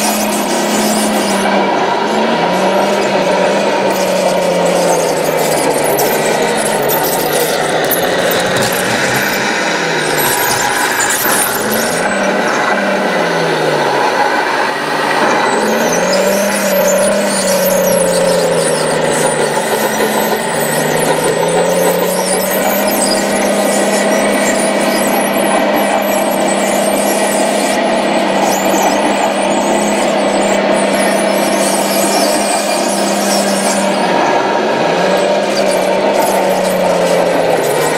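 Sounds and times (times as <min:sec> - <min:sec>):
toy bulldozer motors whining: 0:00.0 - 0:37.9.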